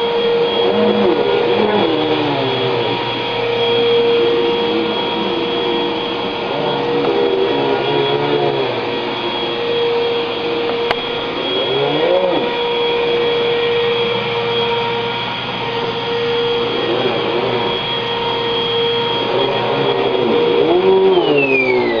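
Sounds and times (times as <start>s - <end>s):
vacuum cleaner whine: 0.0s - 22.0s.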